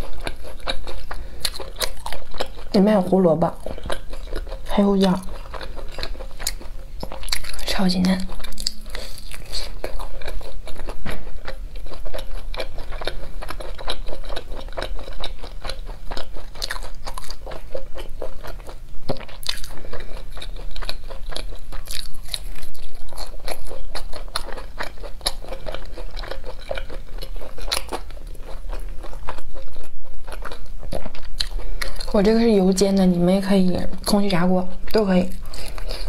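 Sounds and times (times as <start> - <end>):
crunchy biting and chewing: 0.0 - 2.8, 3.5 - 32.2, 34.0 - 36.0.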